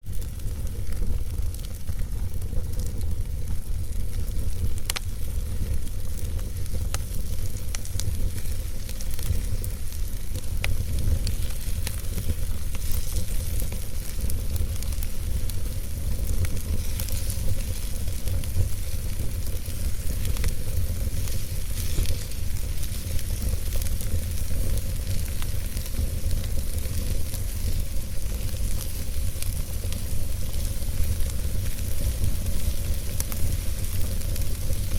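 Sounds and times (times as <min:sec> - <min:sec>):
log fire rumbling: 0:00.0 - 0:34.9
wood crackling and popping: 0:00.0 - 0:34.9.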